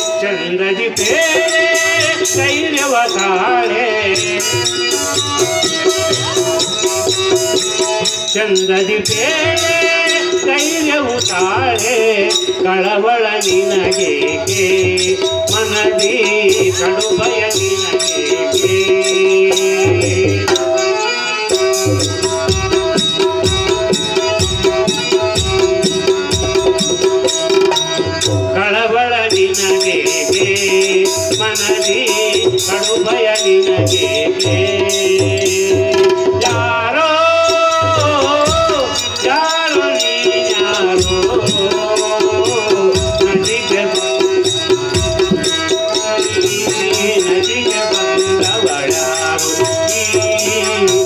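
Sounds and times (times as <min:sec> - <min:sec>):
percussion strokes: 0:00.0 - 0:51.0
steady drum rhythm: 0:00.0 - 0:51.0
wavering melody: 0:00.0 - 0:51.0.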